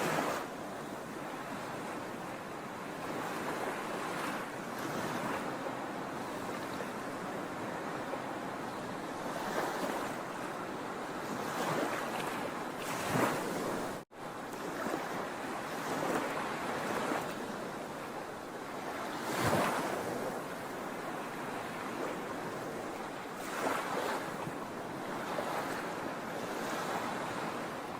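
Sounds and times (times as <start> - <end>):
sea waves breaking: 0.0 - 27.9.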